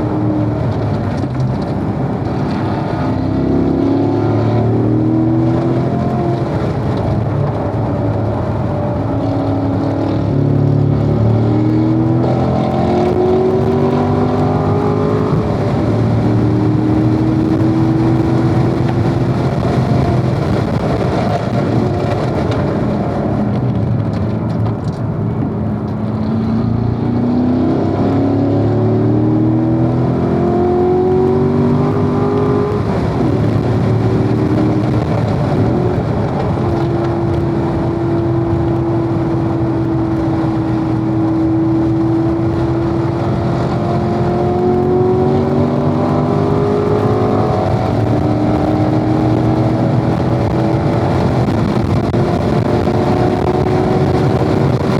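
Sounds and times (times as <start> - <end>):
car engine at speed: 0.0 - 54.9
road and wind noise: 0.0 - 54.9.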